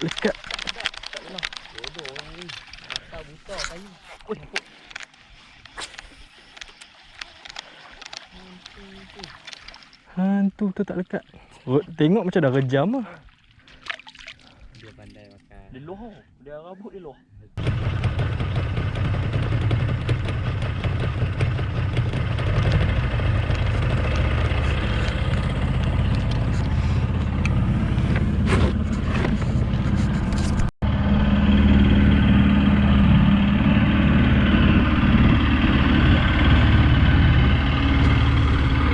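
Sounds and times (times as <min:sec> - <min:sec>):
motorboat engine running: 0:00.0 - 0:10.2, 0:17.6 - 0:38.9.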